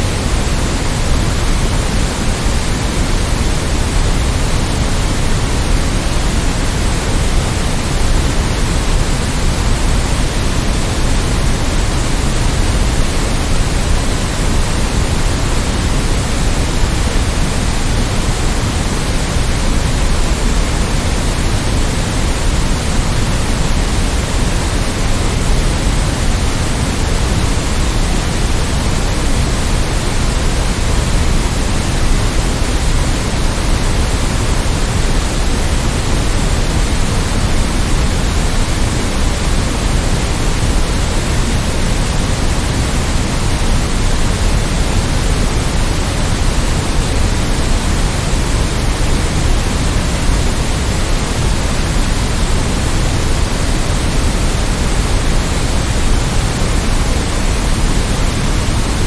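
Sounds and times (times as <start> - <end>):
steady synthetic noise: 0.0 - 59.0.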